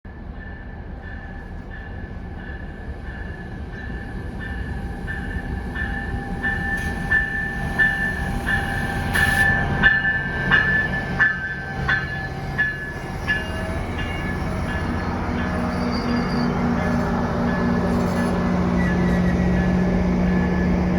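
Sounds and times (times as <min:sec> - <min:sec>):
train rumbling: 0:00.1 - 0:20.9.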